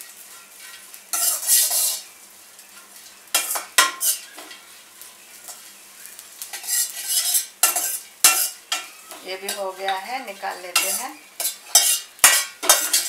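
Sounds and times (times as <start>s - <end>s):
steel spatula scraping a wok: 0.0s - 2.2s, 2.8s - 4.8s, 5.4s - 13.0s
faint sizzle: 0.0s - 13.0s.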